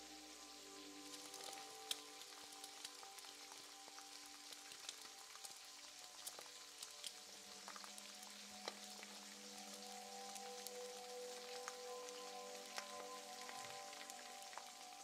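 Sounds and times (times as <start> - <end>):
food sizzling in a pan: 0.0 - 15.0
small crackles and pops: 0.0 - 15.0.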